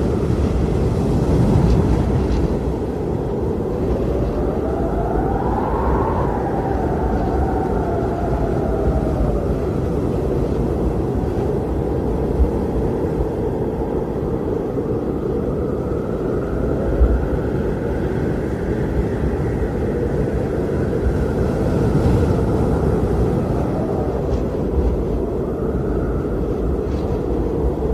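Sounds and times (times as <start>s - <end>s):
blizzard wind roaring: 0.0s - 27.9s
low wind gusts: 0.0s - 27.9s
wind howling: 0.0s - 27.9s.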